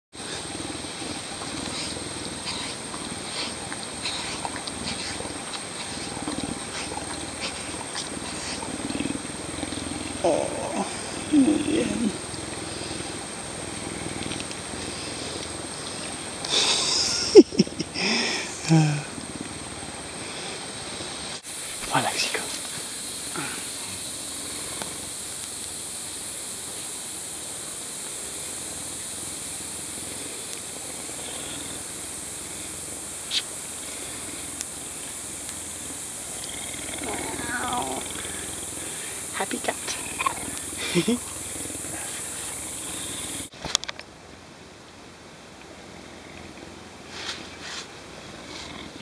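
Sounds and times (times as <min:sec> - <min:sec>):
rustle: 0:00.1 - 0:49.0
steady high hiss: 0:00.1 - 0:49.0
puma purring: 0:00.2 - 0:27.0, 0:28.0 - 0:43.5, 0:45.9 - 0:49.0.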